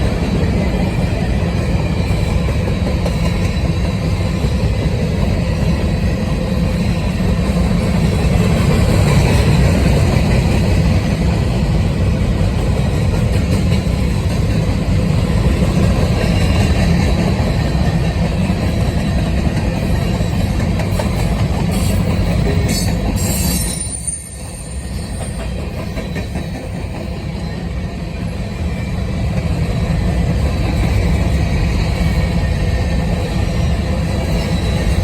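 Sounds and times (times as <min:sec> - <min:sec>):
freight cars rolling on rails: 0:00.0 - 0:35.0.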